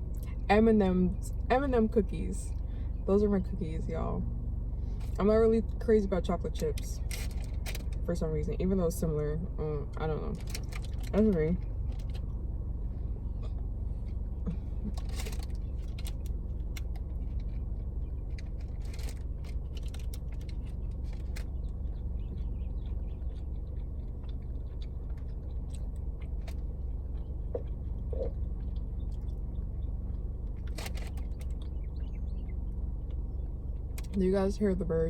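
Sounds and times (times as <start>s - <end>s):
low rumble: 0.0s - 35.0s
chewing and crunching cookie: 5.0s - 12.4s, 13.4s - 34.2s.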